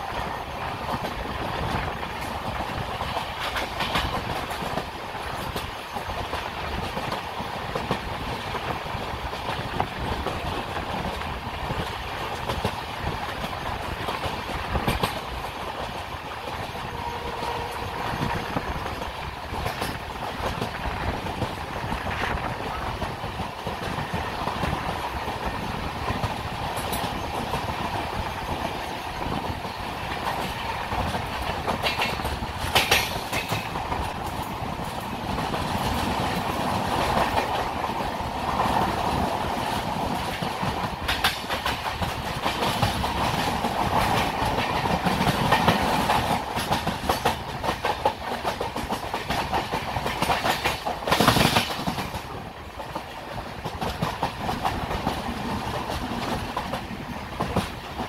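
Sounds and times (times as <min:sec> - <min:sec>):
train wheels clattering over rails: 0:00.0 - 0:58.0.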